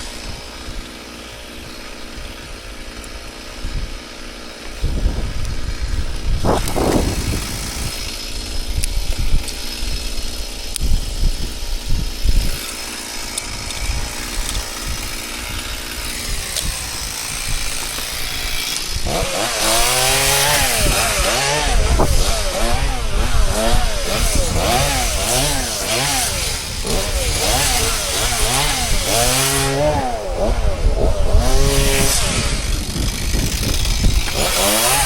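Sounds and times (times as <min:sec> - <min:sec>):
chainsaw cutting wood: 0:00.0 - 0:35.0
low rumbling: 0:04.7 - 0:35.0.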